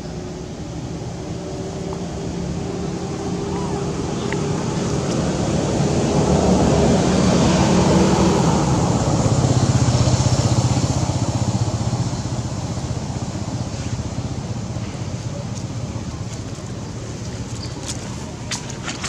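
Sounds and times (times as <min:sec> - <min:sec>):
vehicle engine passing: 0:02.2 - 0:19.0.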